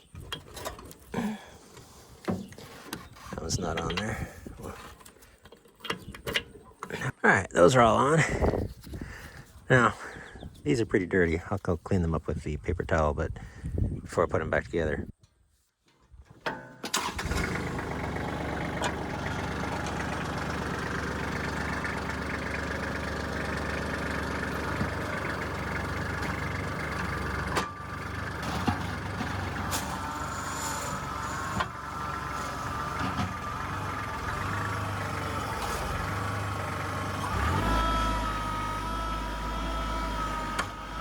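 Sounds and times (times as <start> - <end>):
tractor diesel engine running: 0.0 - 13.3, 16.9 - 41.0.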